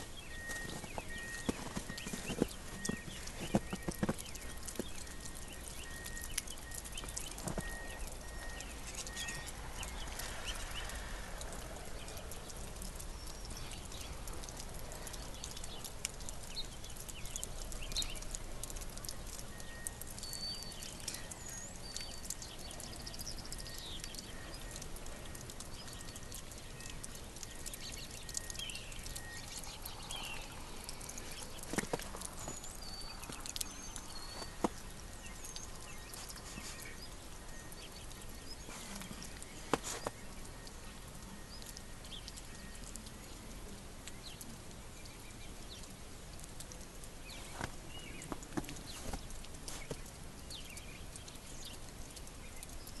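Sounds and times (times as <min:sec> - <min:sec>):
bird chirps: 0:00.0 - 0:11.4, 0:12.0 - 0:43.4.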